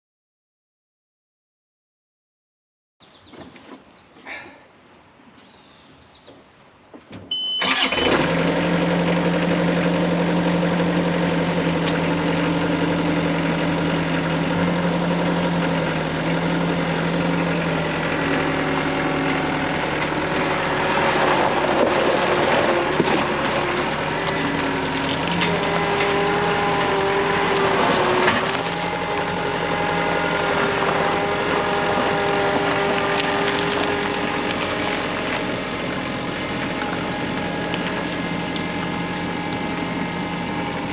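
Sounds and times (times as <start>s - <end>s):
engine starting and running: 7.3s - 40.9s.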